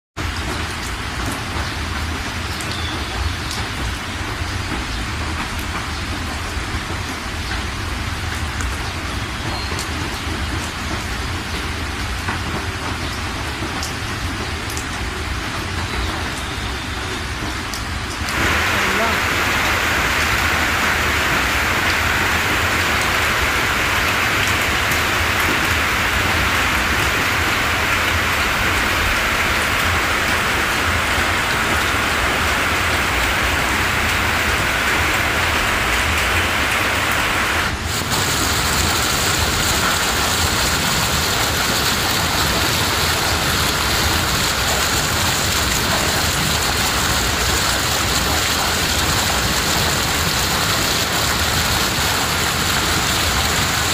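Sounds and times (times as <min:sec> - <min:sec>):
heavy rain falling: 0:00.2 - 0:53.9.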